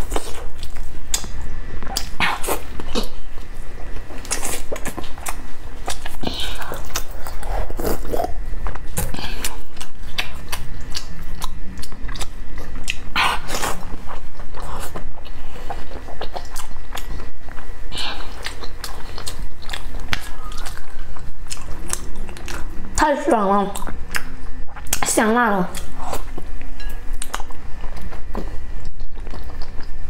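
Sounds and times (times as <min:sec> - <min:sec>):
person chewing with wet smacking: 0:00.0 - 0:23.1, 0:23.7 - 0:30.0.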